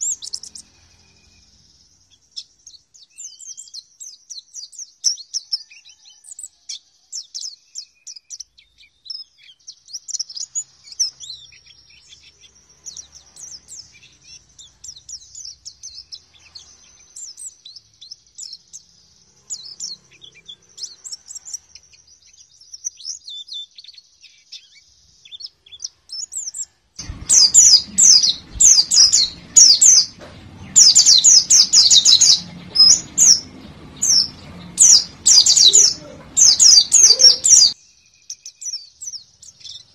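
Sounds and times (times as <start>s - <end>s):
birds twittering in high chirps: 0.0s - 39.9s.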